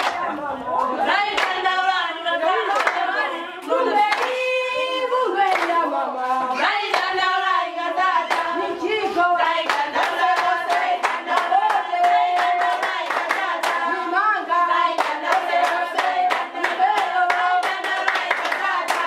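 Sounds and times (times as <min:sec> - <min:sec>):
group singing: 0:00.0 - 0:19.0
rhythmic hand clapping: 0:00.0 - 0:19.0.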